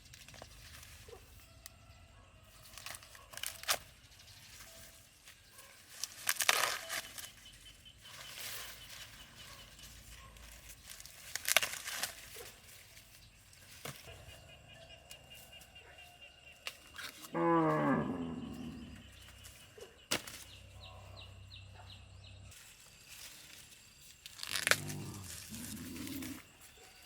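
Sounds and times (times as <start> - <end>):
dry corn leaves rustling and tearing: 0.0 - 14.5, 15.3 - 20.8, 22.5 - 27.0.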